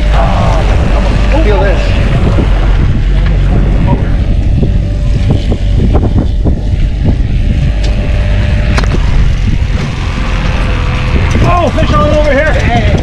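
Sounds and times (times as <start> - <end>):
boat motor rumbling: 0.0 - 13.0
wind buffeting microphone: 0.0 - 13.0.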